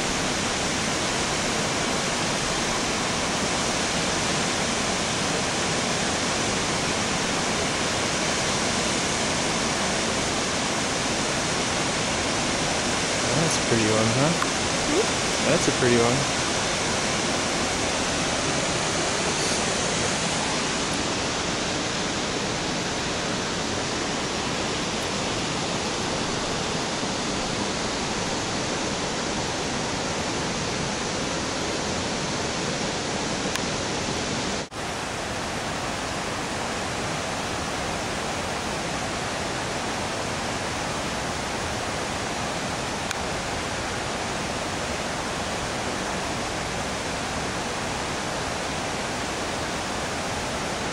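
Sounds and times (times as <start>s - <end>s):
waterfall and rapids rushing: 0.0s - 50.9s.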